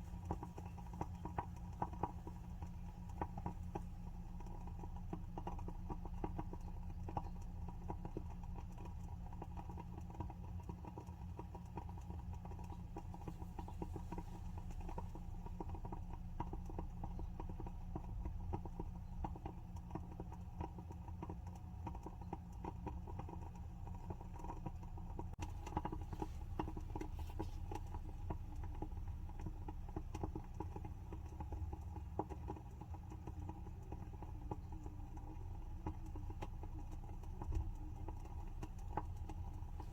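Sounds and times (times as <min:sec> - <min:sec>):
candle wick crackling: 0:00.0 - 0:20.5, 0:22.0 - 0:39.9
steady low hum: 0:00.0 - 0:39.9.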